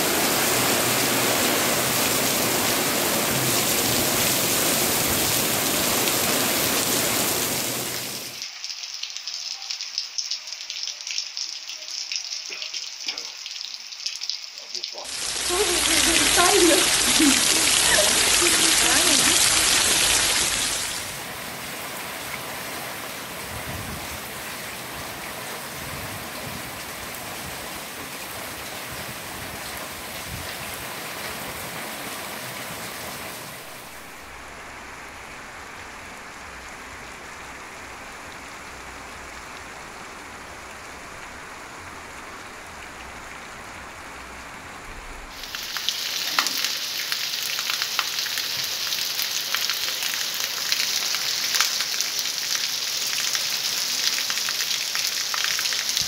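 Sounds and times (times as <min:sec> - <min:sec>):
rain falling: 0:00.0 - 0:56.0
raindrops striking ground: 0:00.0 - 0:56.0.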